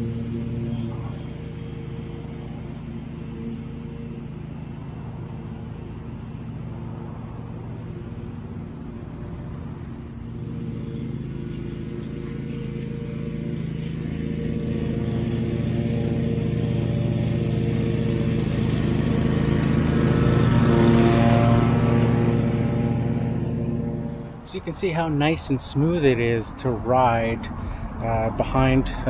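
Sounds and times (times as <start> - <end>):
lawn mower cutting grass: 0.0 - 26.2.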